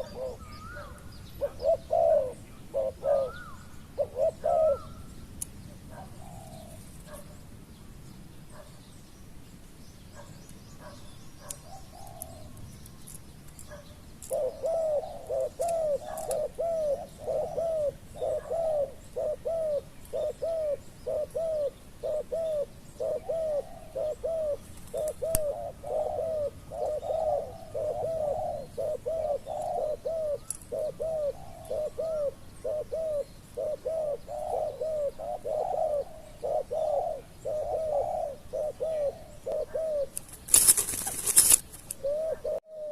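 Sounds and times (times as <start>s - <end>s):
dove cooing: 0.0s - 5.2s, 5.8s - 7.4s, 10.2s - 12.6s, 13.7s - 42.9s.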